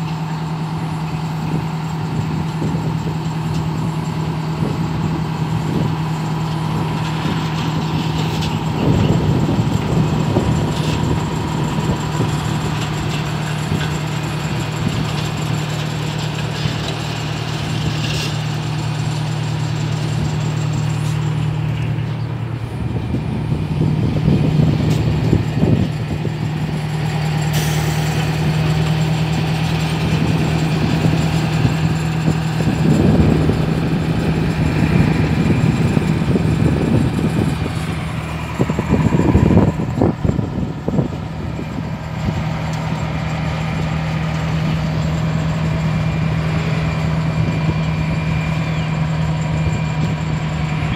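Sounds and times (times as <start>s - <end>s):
diesel locomotive engine drone: 0.0s - 50.9s.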